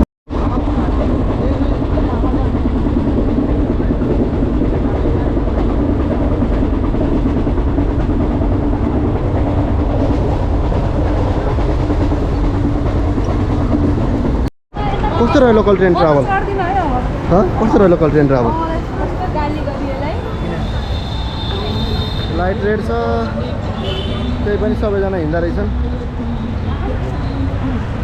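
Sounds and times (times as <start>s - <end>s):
train rumbling and rattling: 0.3s - 28.0s.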